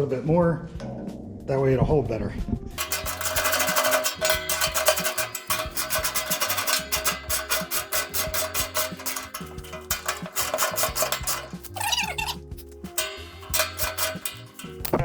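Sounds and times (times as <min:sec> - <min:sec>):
ratchet wrench clicking: 0:02.8 - 0:15.0.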